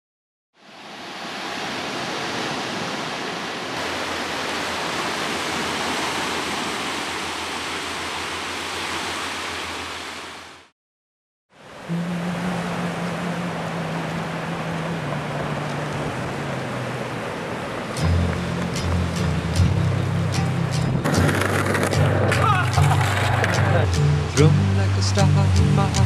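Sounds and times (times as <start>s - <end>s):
surf washing on a beach: 0.6s - 10.7s, 11.6s - 24.0s.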